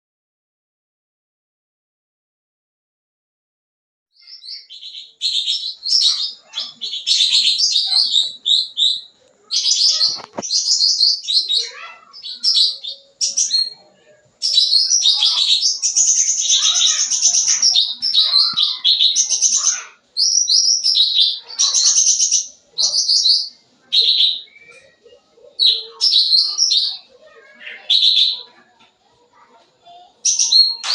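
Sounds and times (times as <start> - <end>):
songbird chattering song: 4.2 - 30.9.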